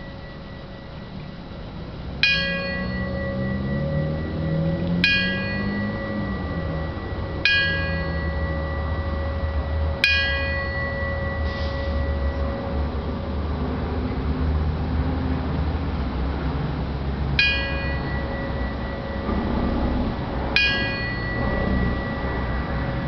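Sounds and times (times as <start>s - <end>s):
bell struck by hand: 0.0s - 1.4s, 2.2s - 14.2s, 17.3s - 23.0s
low rumble: 0.0s - 15.8s, 16.4s - 23.0s.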